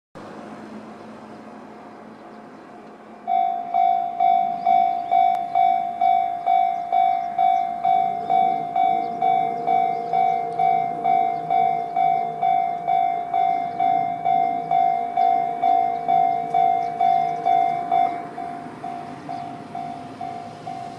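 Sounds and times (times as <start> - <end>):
level crossing warning bell: 3.2 - 20.9
lower-pitched warning tone: 3.2 - 20.9.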